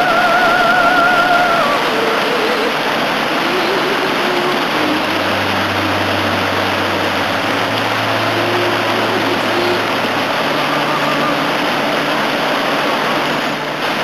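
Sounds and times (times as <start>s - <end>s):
whitewater rapids rushing over rocks: 0.0s - 14.0s.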